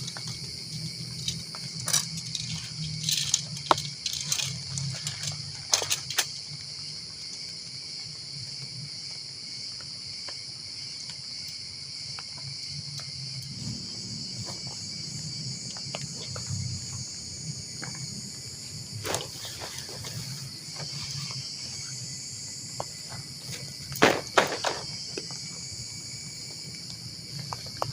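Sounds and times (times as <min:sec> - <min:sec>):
insects chirping: 0:00.0 - 0:27.9.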